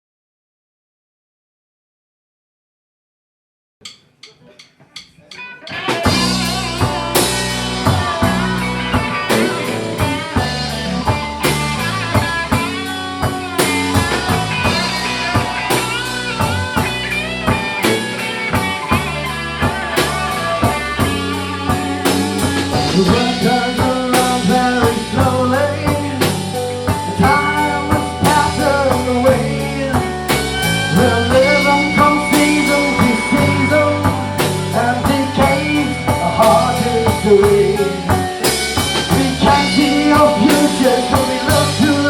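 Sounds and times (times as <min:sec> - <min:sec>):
blues-rock guitar and drums: 0:05.1 - 0:42.0.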